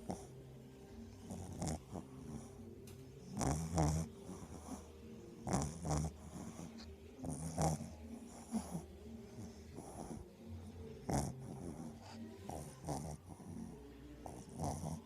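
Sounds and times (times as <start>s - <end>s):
dog snoring: 0.0s - 15.0s.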